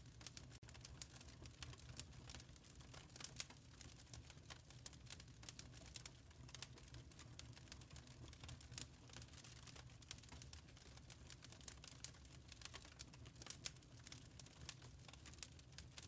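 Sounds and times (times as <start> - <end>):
fire rumble: 0.0 - 16.0
fire snaps and pops: 0.0 - 16.0.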